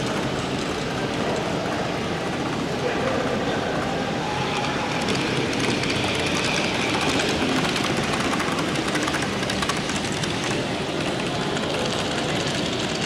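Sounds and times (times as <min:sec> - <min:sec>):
model train rolling hum: 0:00.0 - 0:13.0
wheels clicking on rails: 0:00.0 - 0:13.0.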